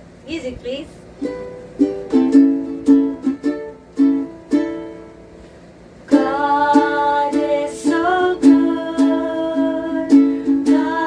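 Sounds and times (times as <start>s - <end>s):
small string instrument strumming: 1.2s - 5.2s, 6.1s - 11.0s.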